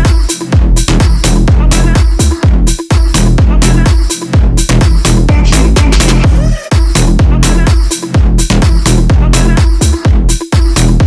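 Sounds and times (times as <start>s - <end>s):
electronic dance music: 0.0s - 11.0s
kick drum beat: 0.0s - 11.0s.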